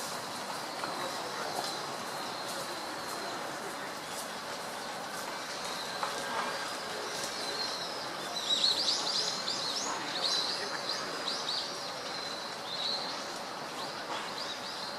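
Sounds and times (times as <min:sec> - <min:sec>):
outdoor background noise: 0:00.0 - 0:14.9.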